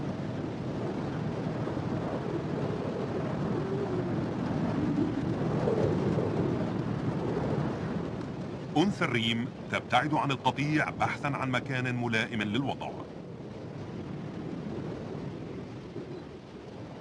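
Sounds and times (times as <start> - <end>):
strong wind rumbling and howling: 0.0 - 17.0.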